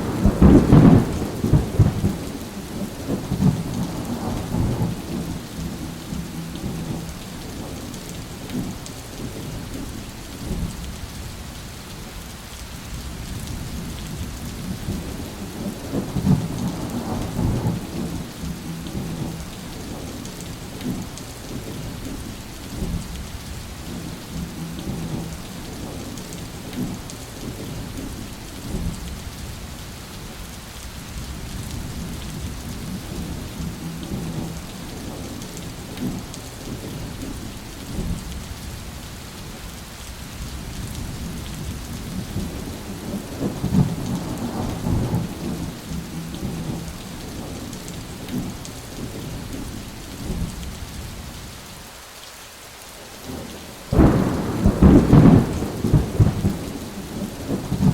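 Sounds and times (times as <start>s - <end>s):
thunder rumbling: 0.0s - 10.8s, 13.0s - 23.1s, 23.8s - 29.0s, 31.5s - 38.4s, 40.6s - 50.6s, 53.2s - 57.9s
steady rain falling: 0.0s - 57.9s.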